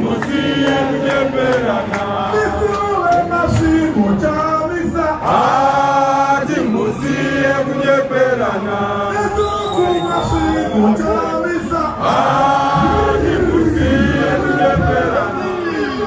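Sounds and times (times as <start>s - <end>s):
crowd singing a chant: 0.0s - 16.0s.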